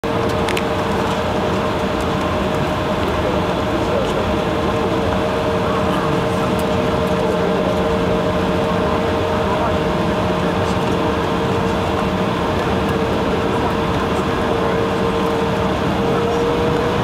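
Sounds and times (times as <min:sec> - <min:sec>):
jet airliner cabin rumble: 0:00.0 - 0:17.0
steady engine whine: 0:00.0 - 0:17.0.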